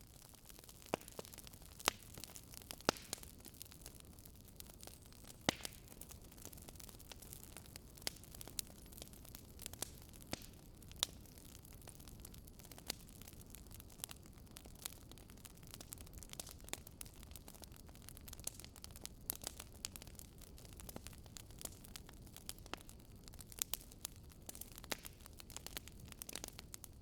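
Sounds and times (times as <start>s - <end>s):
low rumble of flame: 0.0s - 27.0s
wood fire crackling and popping: 0.0s - 27.0s.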